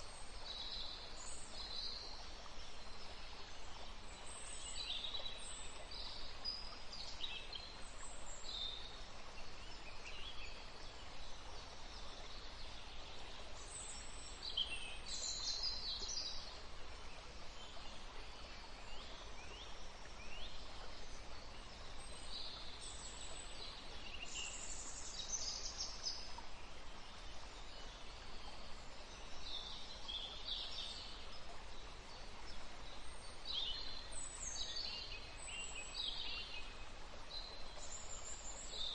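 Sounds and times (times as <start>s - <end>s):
steady noise hiss: 0.0s - 38.9s.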